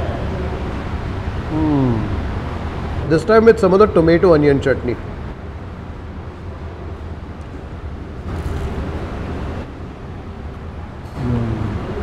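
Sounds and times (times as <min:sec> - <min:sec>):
low background hum and rumble: 0:00.0 - 0:12.0.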